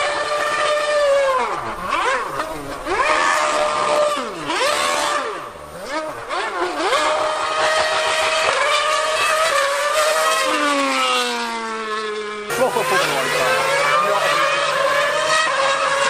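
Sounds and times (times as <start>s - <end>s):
racing car engine revving high: 0.0s - 16.0s.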